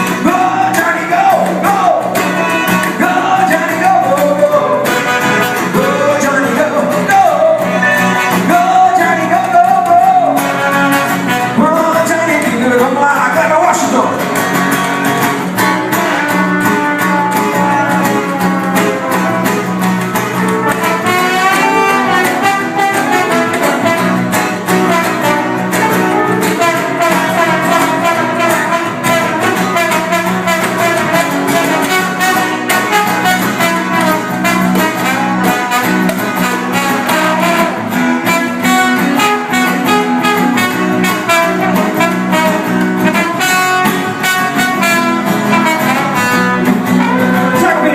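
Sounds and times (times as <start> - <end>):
horns playing melody: 0.0 - 12.4, 13.7 - 47.9
instrumental band music: 0.0 - 47.9.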